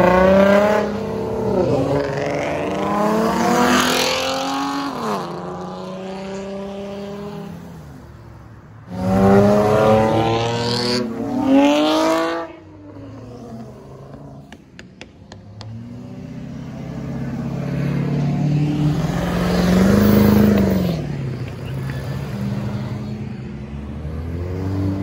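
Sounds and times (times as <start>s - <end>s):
cars accelerating past: 0.0s - 14.5s, 15.4s - 25.0s.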